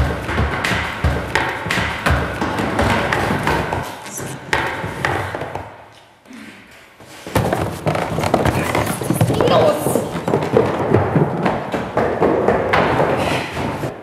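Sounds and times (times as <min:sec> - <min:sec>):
footsteps on stairs: 0:00.0 - 0:14.0.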